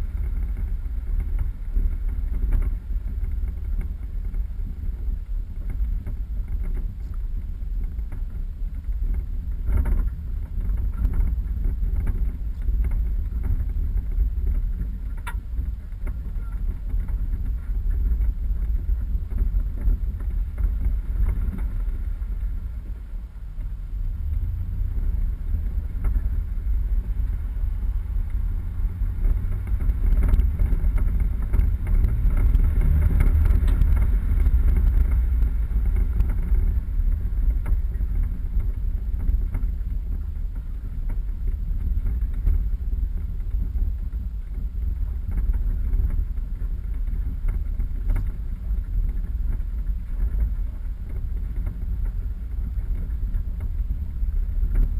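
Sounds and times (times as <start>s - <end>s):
vehicle engine rumble: 0.0s - 54.9s
wind buffeting microphone: 0.0s - 54.9s.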